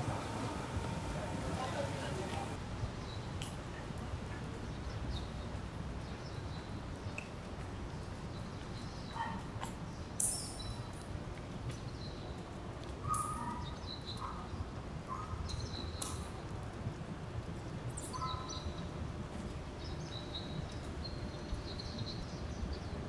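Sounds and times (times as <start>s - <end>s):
low street rumble: 0.0s - 8.9s, 10.9s - 23.0s.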